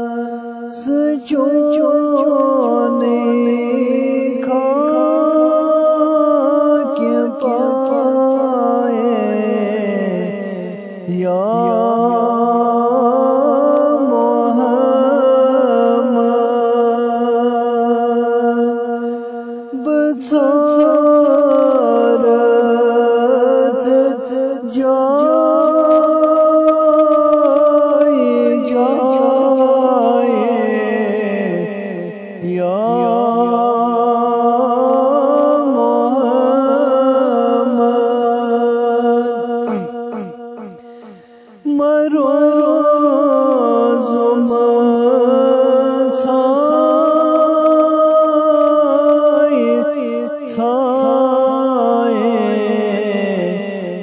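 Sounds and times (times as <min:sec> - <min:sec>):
man singing unaccompanied: 0:00.0 - 0:54.0.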